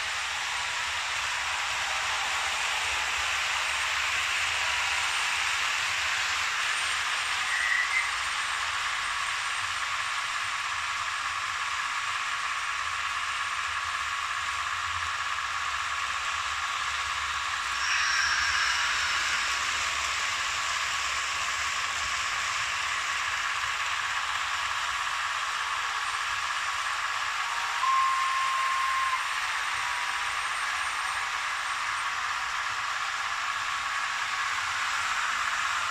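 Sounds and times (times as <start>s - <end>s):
model trains running on metal track: 0.0s - 35.9s.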